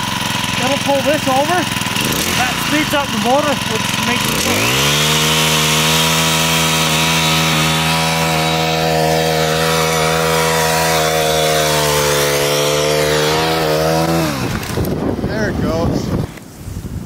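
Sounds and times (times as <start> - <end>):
small gas engine running: 0.0 - 17.0.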